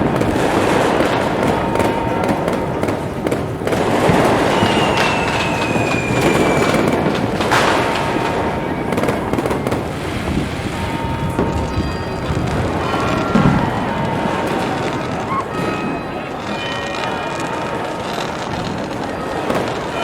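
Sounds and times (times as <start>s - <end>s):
falling firework whistle: 0.0s - 20.0s
fireworks bursting and crackling: 0.0s - 20.0s.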